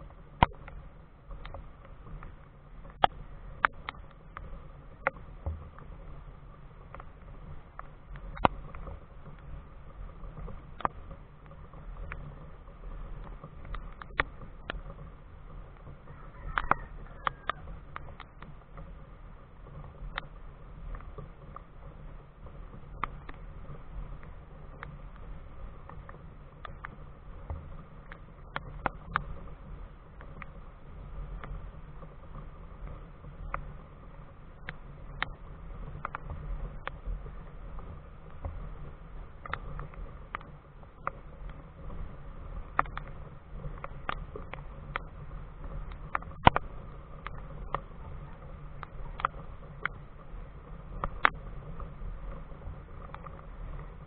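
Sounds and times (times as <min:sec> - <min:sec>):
low steady rumble: 0:00.0 - 0:54.0
raindrops tapping on camera housing: 0:00.0 - 0:54.0.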